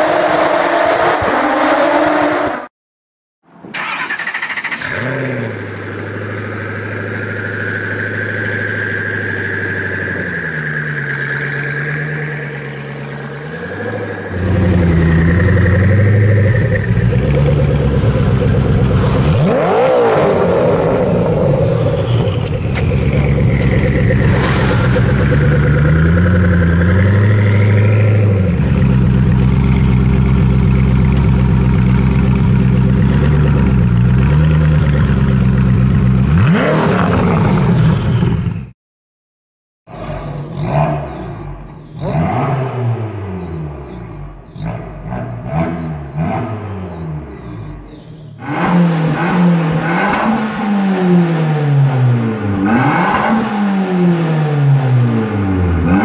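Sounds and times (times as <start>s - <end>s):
car engine idling and revving: 3.7s - 38.7s, 39.9s - 56.0s.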